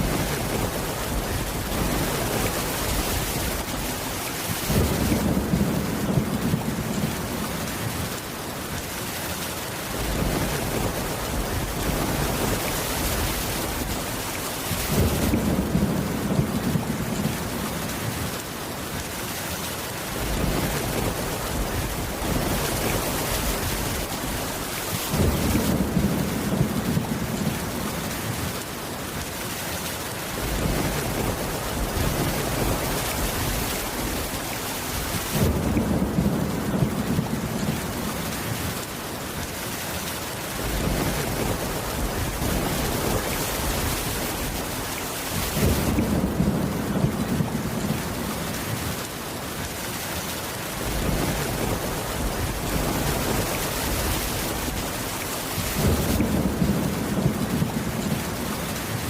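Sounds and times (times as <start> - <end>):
deep thunder rumbles: 0.0 - 8.2, 9.9 - 18.4, 20.1 - 28.6, 30.3 - 38.9, 40.6 - 49.0, 50.8 - 59.0
steady rain: 0.0 - 59.0.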